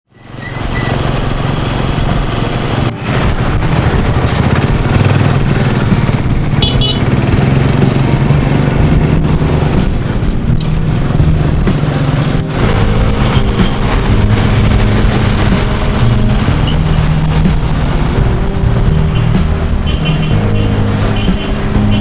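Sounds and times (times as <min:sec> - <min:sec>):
vehicle engine running: 0:00.1 - 0:22.0.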